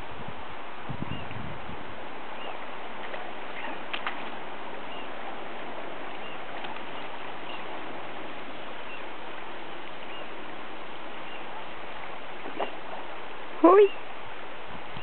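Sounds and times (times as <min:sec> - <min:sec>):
river water rushing over riffle: 0:01.5 - 0:15.0.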